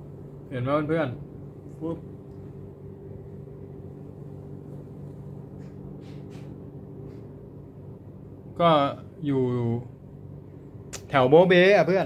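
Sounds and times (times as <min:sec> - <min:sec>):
low room hum with held tones: 0:00.0 - 0:12.0.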